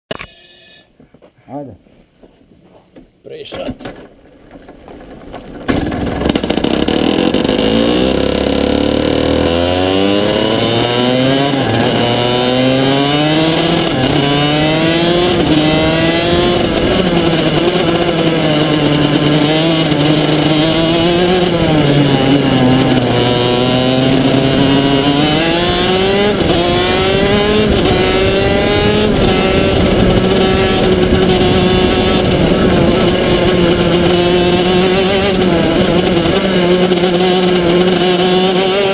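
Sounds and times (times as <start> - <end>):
kart engine revving: 4.4 - 38.9.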